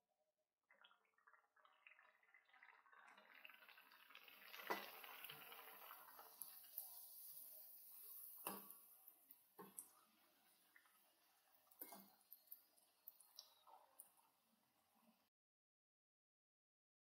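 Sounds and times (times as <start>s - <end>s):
oil sizzling and crackling: 0.7s - 14.4s.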